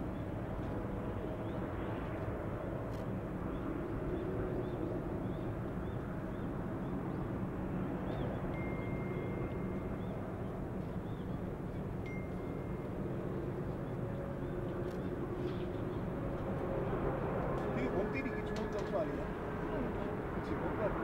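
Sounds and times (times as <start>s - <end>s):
jet engines taxiing rumble: 0.0s - 21.0s.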